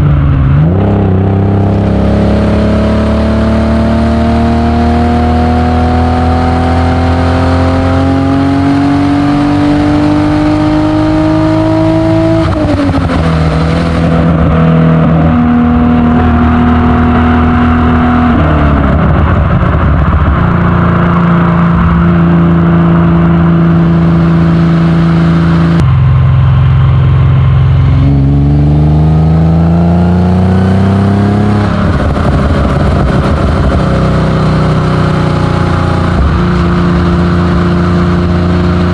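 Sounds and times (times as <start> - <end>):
car engine exhaust revving: 0.0 - 38.9.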